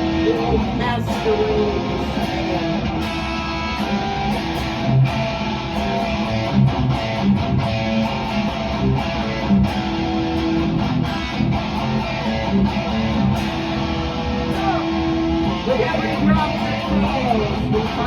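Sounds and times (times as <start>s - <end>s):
strummed electric guitar: 0.0s - 18.0s.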